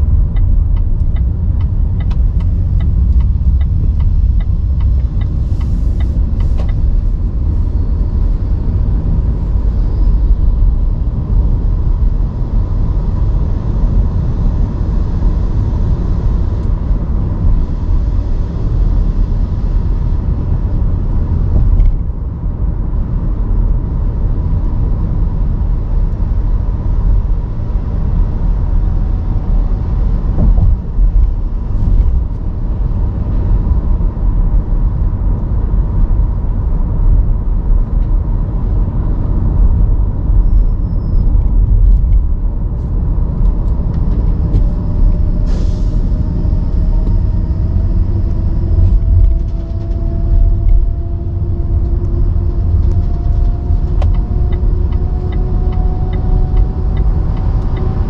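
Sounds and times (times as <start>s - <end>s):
road and drivetrain rumble: 0.0s - 58.0s.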